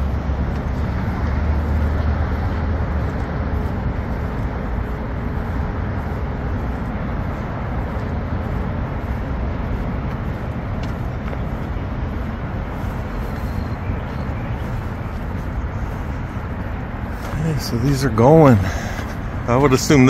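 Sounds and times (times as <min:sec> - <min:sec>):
heavy low rumble: 0:00.0 - 0:20.0
passing cars traffic: 0:00.0 - 0:20.0.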